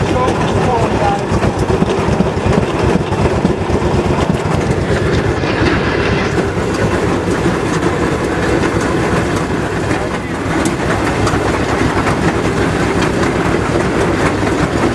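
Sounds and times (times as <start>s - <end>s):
motorcar engine exhaust beat: 0.0s - 14.9s
wheels clacking over rail joints: 0.0s - 14.9s.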